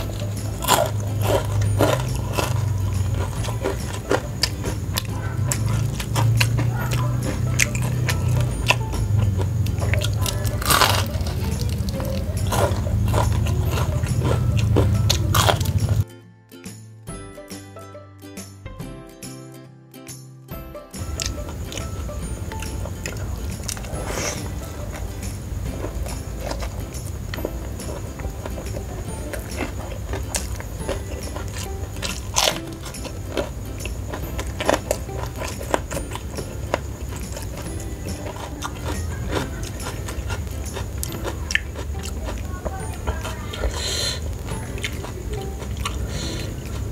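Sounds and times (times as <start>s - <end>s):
crunching fried chicken: 0.0s - 16.0s, 21.0s - 46.9s
wet chewing: 0.0s - 16.0s, 21.0s - 46.9s.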